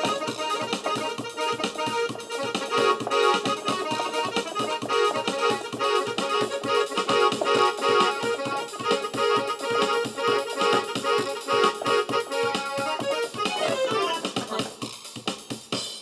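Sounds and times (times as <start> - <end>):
music with reedy melody: 0.0 - 16.0.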